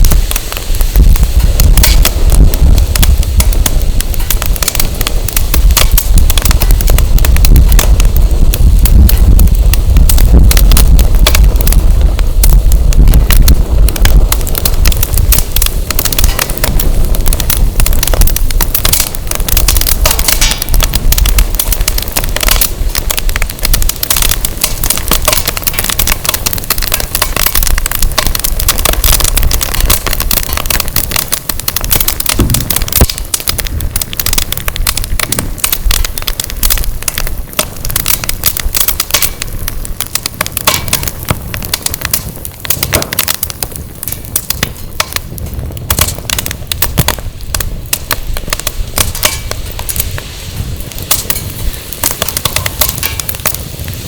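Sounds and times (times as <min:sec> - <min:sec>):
firewood crackling and popping: 0:00.0 - 0:54.0
wind rumble on microphone: 0:00.0 - 0:54.0.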